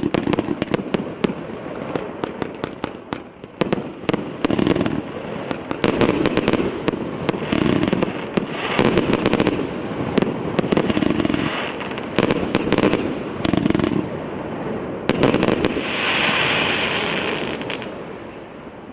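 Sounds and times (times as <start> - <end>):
firework cracks and bursts: 0.0 - 18.2
firework hissing crackle: 0.0 - 18.8
fireworks launching: 0.0 - 18.9.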